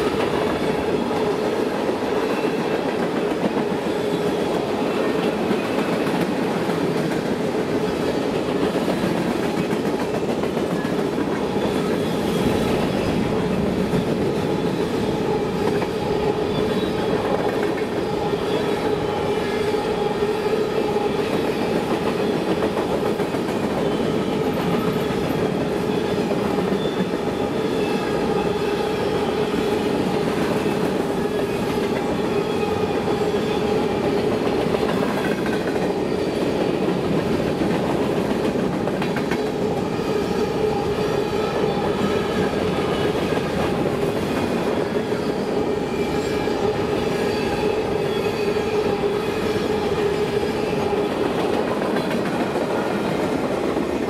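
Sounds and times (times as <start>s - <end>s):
clickety-clack: 0.0s - 19.1s, 20.4s - 45.4s, 48.8s - 54.0s
rumble of wheels on track: 0.0s - 54.0s.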